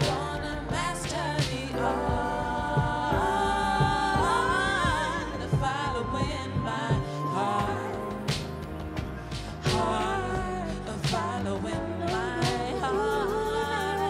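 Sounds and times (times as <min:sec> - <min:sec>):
woman singing into microphone: 0:00.0 - 0:08.6, 0:09.6 - 0:14.0
band accompaniment: 0:00.0 - 0:14.0.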